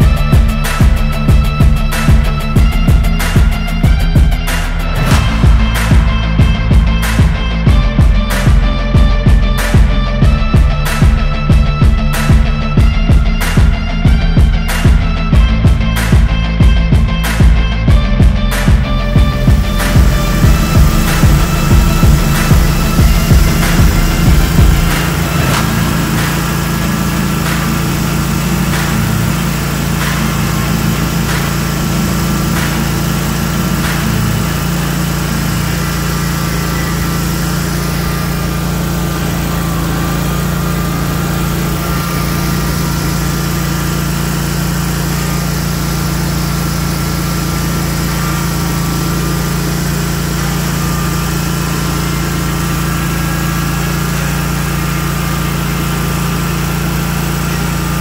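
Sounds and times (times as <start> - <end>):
mower engine running: 0.0 - 58.0.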